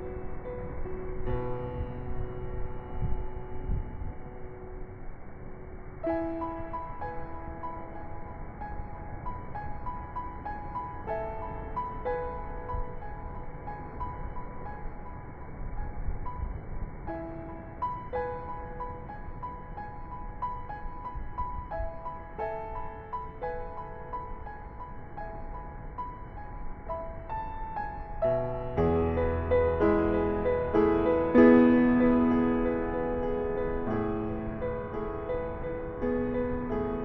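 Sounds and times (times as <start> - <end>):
piano music: 0.0 - 37.0
steady low rumble: 0.0 - 37.0.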